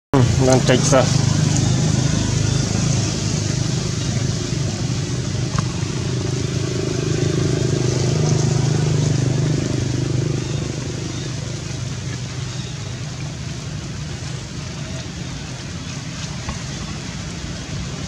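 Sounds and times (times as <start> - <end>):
motor engine humming: 0.1 - 18.0.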